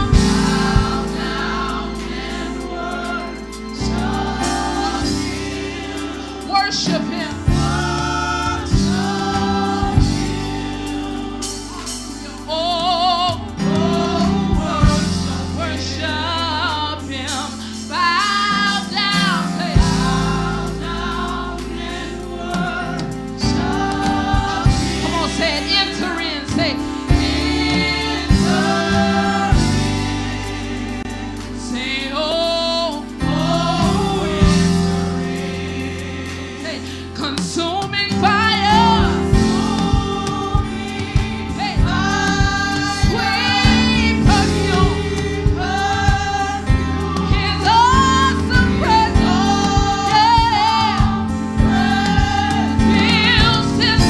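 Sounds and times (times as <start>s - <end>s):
keyboard accompaniment: 0.0s - 54.0s
women singing gospel together: 0.0s - 54.0s.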